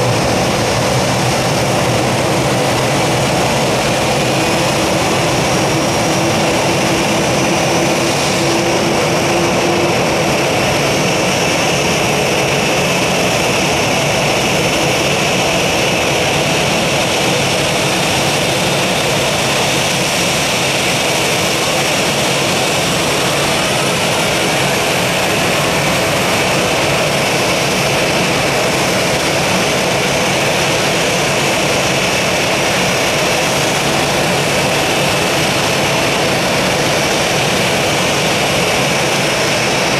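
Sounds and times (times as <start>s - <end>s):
jet engine running with whine: 0.0s - 39.9s.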